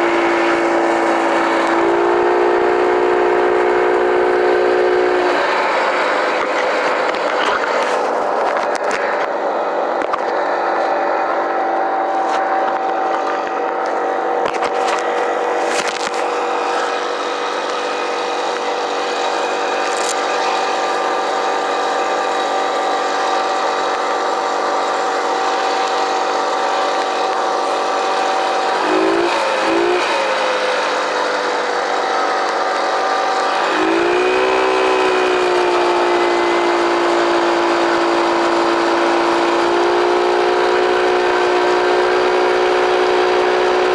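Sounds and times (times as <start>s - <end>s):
mini bike engine running: 4.7s - 9.4s, 12.1s - 43.9s.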